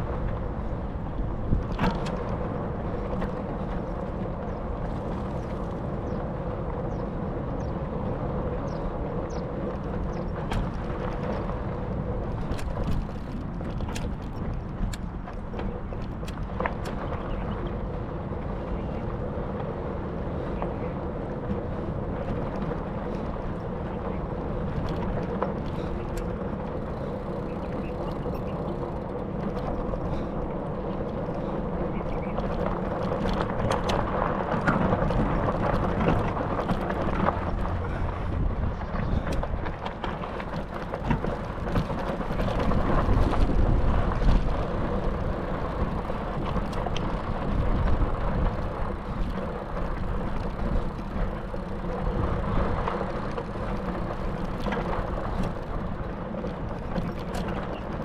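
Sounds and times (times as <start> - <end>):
wind noise: 0.0 - 58.0.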